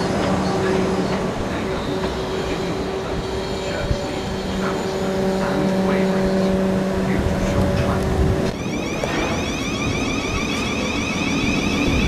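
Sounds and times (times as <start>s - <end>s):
train electric hum: 0.0s - 12.0s
train running gear rumbling: 0.0s - 12.0s.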